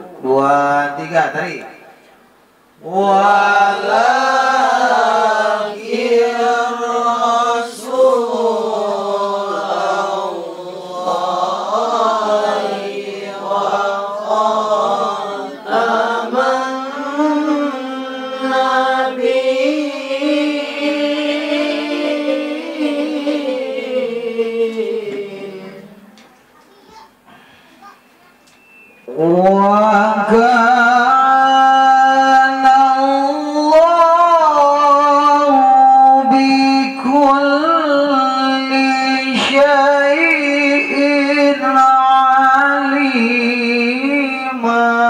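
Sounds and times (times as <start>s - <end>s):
person chanting melodically: 2.8s - 26.3s, 29.0s - 45.0s.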